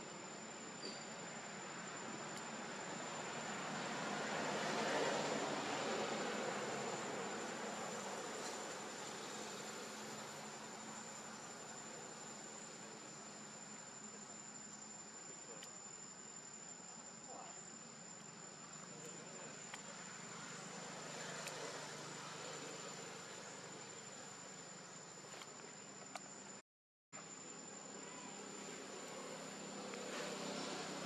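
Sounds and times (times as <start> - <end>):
high-pitched insect trill: 0.0 - 26.6, 27.2 - 31.0.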